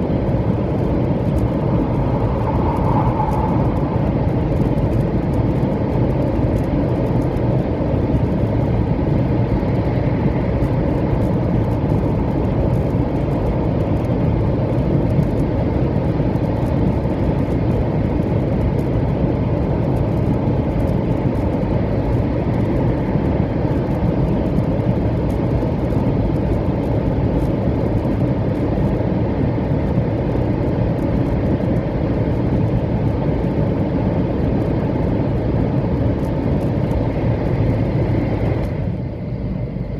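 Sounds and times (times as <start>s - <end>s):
train rumbling inside cabin: 0.0s - 39.9s.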